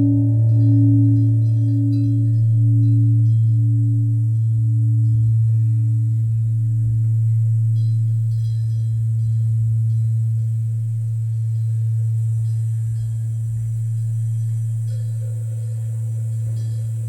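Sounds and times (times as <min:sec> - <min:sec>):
bronze temple bell humming: 0:00.0 - 0:17.0.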